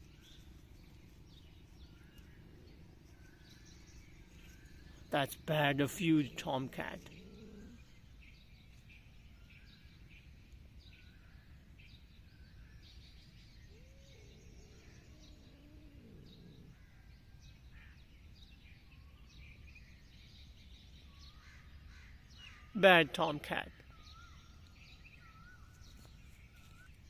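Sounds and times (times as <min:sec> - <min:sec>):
low steady background noise: 0:00.0 - 0:27.0
small birds chirping: 0:00.0 - 0:27.0.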